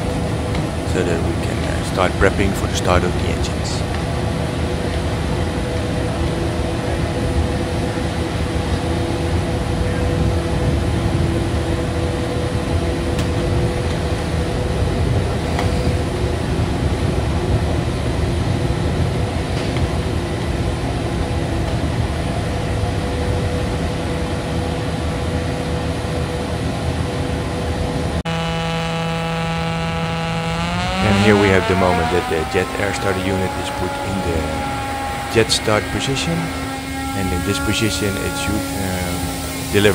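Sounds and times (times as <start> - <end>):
ground support machinery humming: 0.0 - 39.9.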